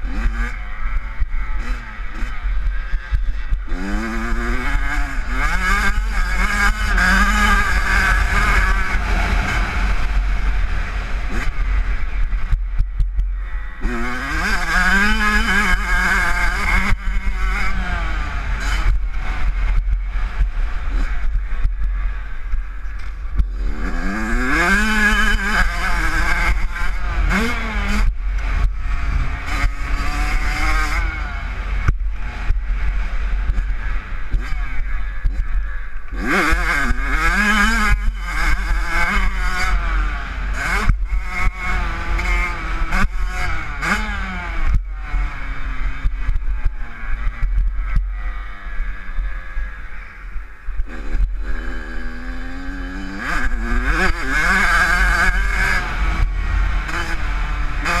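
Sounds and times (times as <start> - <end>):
motocross engine revving: 0.0 - 58.0
wind rumble on microphone: 0.0 - 58.0.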